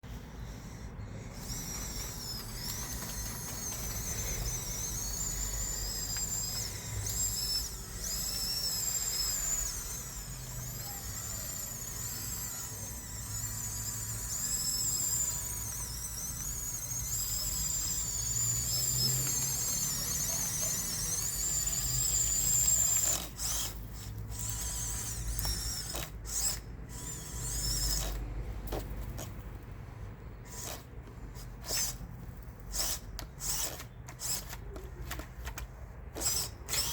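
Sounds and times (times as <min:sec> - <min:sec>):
electric motors whining: 0:00.0 - 0:36.9.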